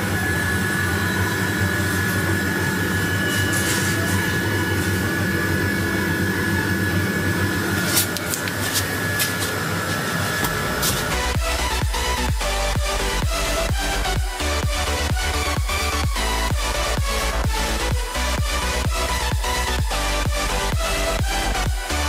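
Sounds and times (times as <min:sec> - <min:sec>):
mechanical hum: 0:00.0 - 0:22.0
thin whine: 0:00.0 - 0:22.0.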